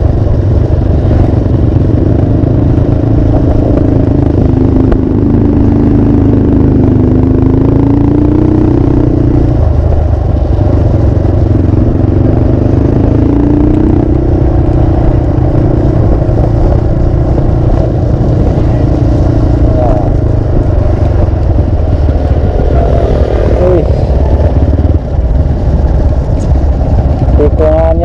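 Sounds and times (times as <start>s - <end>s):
motorcycle engine revving: 0.0s - 28.0s
steady low rumble: 0.0s - 28.0s.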